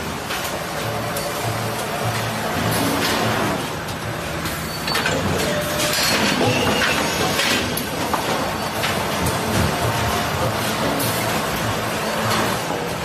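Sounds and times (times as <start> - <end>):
steady machine noise: 0.0 - 13.0.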